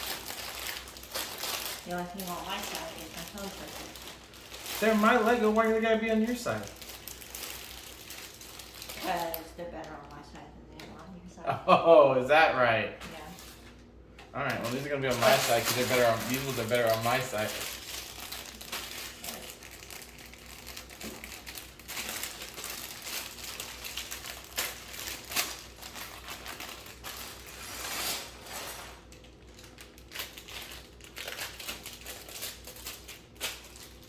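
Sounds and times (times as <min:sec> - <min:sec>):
plastic bags crinkling: 0:00.0 - 0:10.2, 0:14.4 - 0:34.0.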